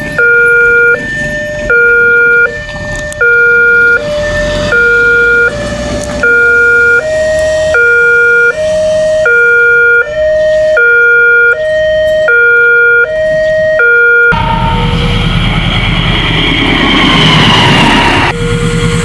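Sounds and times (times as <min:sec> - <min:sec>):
level crossing two-tone siren: 0:00.0 - 0:19.0.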